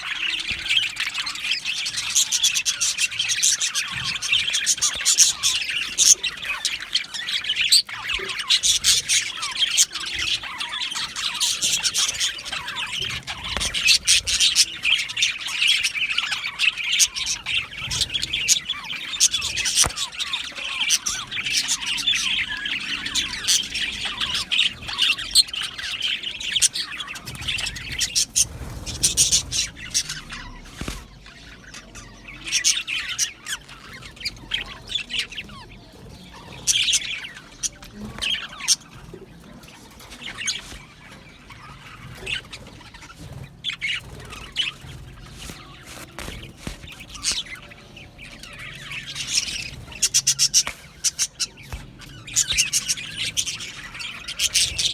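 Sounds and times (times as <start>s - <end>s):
bird squawks: 0.0s - 54.9s
budgerigars chirping and chattering: 0.0s - 54.9s.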